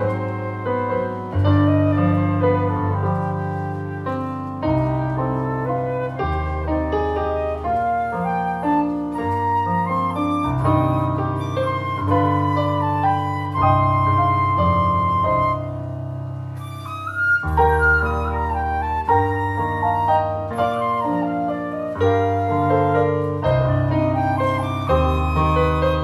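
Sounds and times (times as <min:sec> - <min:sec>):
flute playing slow melody: 0:00.0 - 0:26.0
keyboard piano chords: 0:00.0 - 0:26.0.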